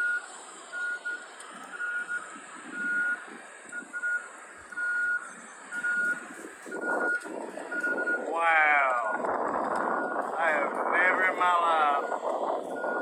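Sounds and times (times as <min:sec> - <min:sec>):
electronic alarm beeping: 0:00.0 - 0:13.0
rushing background noise: 0:00.0 - 0:13.0.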